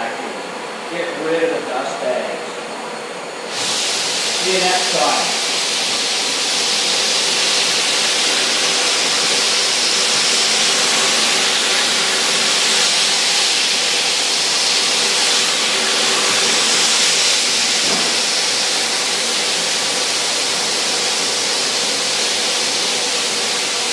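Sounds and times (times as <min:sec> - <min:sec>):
faint vacuum hum: 0:00.0 - 0:23.9
floor sander hissing: 0:03.4 - 0:23.9.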